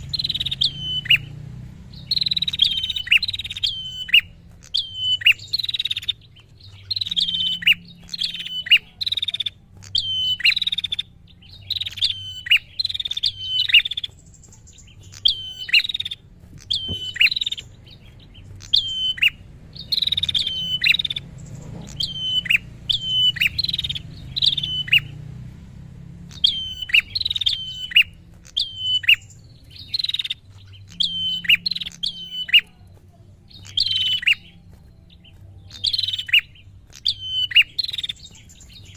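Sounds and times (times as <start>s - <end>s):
bird calling rapidly: 0.0s - 25.3s, 26.2s - 38.9s.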